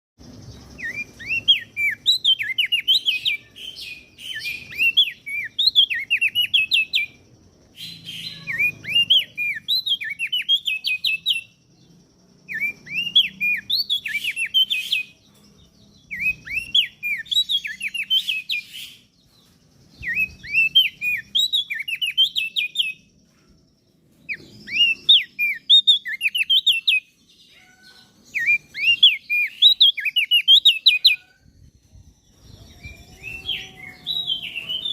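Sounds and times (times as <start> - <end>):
bird chirping song: 0.2 - 34.9.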